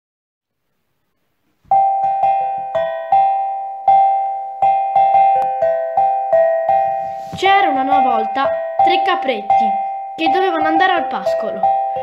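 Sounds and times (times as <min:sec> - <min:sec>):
slow keyboard melody: 0:01.6 - 0:12.0.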